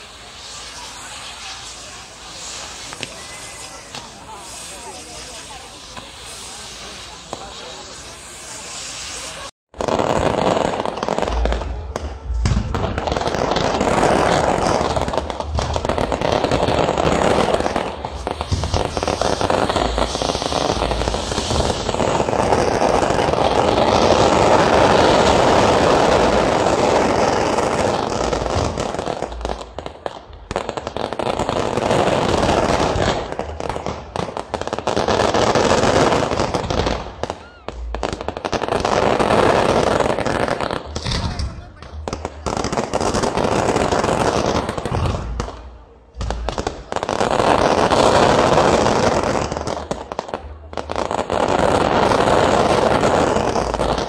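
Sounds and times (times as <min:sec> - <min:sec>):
fireworks bangs: 0:00.0 - 0:54.0
fireworks hissing and crackling: 0:00.0 - 0:54.0.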